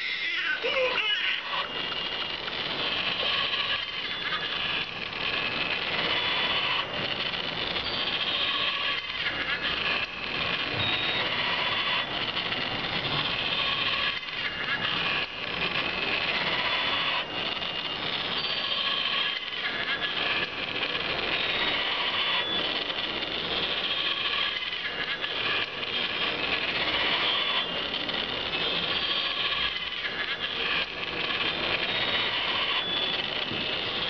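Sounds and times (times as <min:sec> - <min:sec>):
mechanical rattle of cradle motor: 0:00.0 - 0:34.0.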